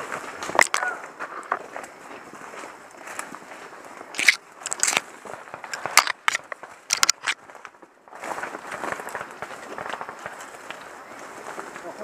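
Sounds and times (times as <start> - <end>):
low rustle: 0.0 - 12.0
dry twigs snapping: 0.2 - 2.0, 2.9 - 12.0.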